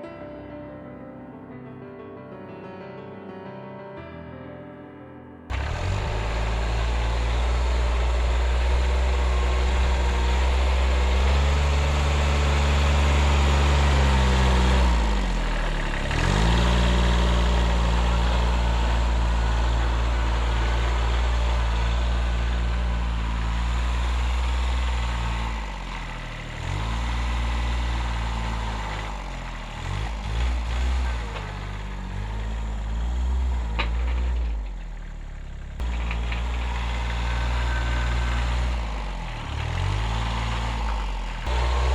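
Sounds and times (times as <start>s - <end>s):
tractor diesel engine running: 5.5s - 41.9s.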